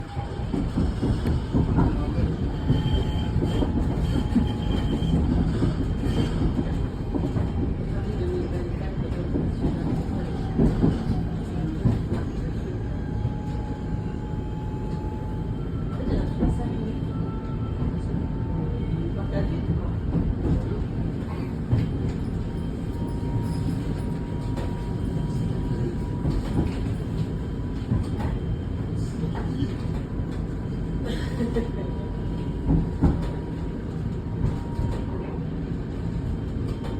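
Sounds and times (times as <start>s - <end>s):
tram wheels and motors rumbling: 0.0s - 36.9s.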